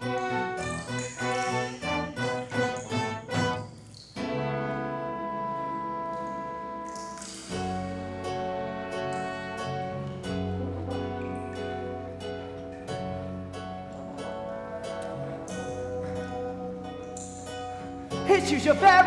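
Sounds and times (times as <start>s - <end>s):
orchestral accompaniment: 0.0s - 19.0s.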